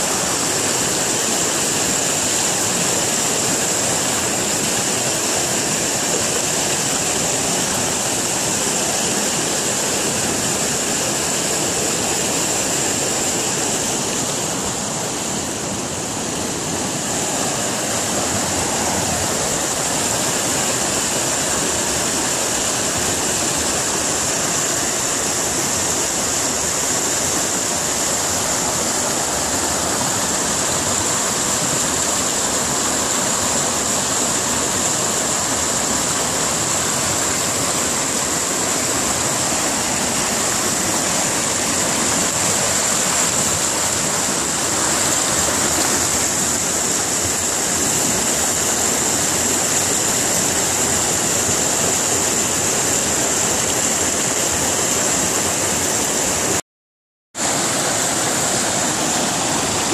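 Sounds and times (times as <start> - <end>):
river rushing over boulders: 0.0 - 56.6, 57.4 - 59.9.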